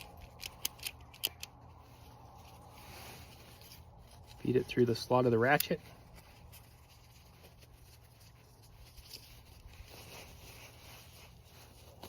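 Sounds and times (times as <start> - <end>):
ratchet strap webbing rustling: 0.0 - 12.0.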